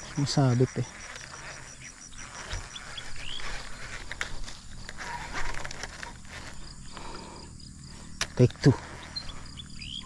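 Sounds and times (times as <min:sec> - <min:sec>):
leaves and brush rustling: 0:00.0 - 0:10.0.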